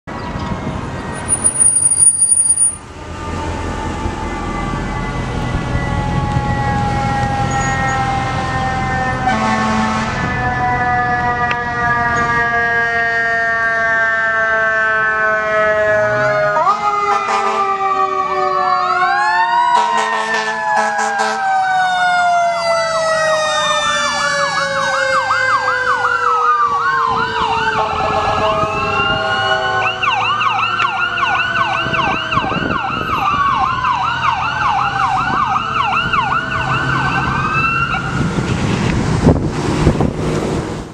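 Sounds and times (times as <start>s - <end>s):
emergency vehicle sirens: 0.1s - 40.9s.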